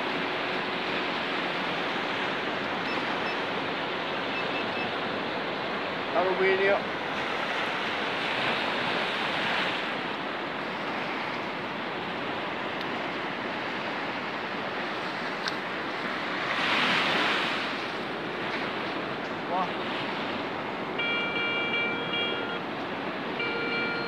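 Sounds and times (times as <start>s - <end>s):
surf washing up beach: 0.0s - 24.0s.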